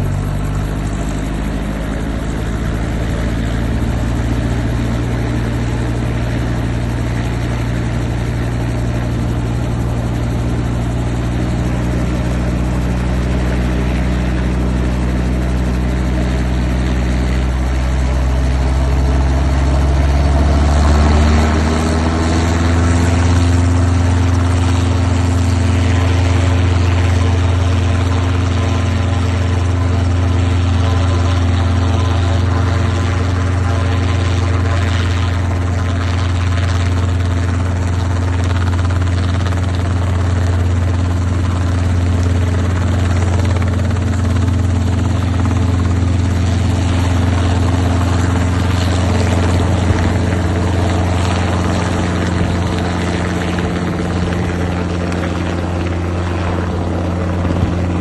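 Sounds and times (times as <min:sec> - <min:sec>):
helicopter engine and rotor running: 0:00.0 - 0:58.0.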